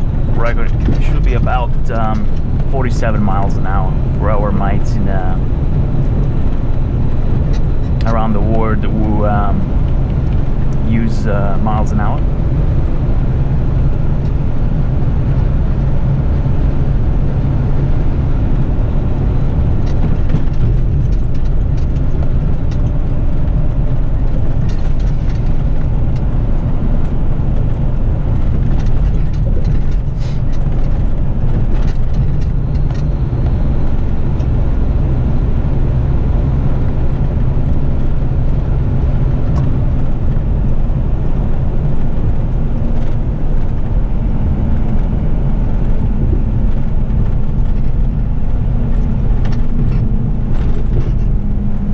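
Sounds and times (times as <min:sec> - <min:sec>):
truck diesel engine drone: 0:00.0 - 0:51.9.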